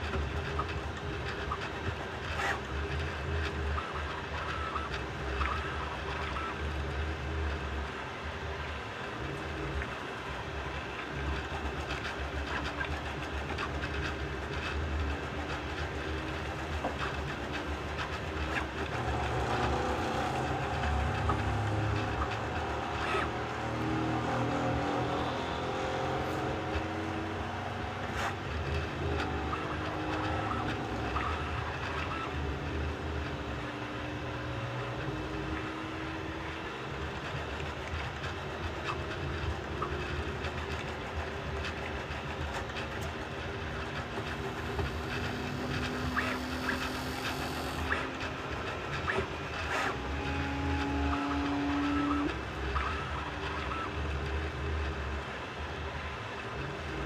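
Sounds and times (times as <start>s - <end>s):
stepper motors whining: 0.0s - 57.0s.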